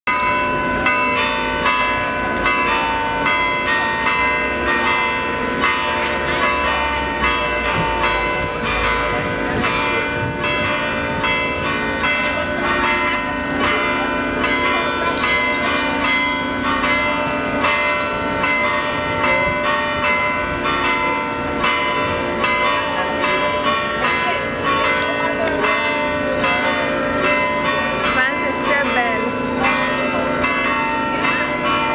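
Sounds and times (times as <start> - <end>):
church bells pealing: 0.1 - 31.9.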